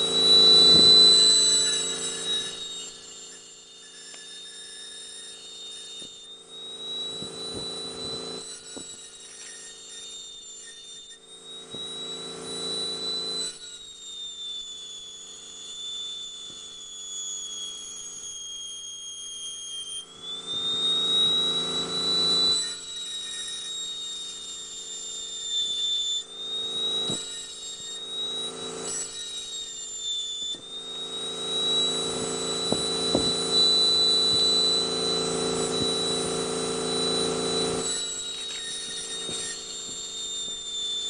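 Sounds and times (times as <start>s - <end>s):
engraving tool whining: 0.0s - 41.0s.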